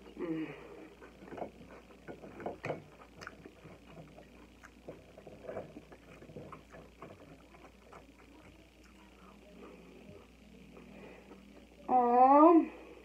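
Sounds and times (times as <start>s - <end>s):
person chewing crunchy food: 0.8s - 11.8s.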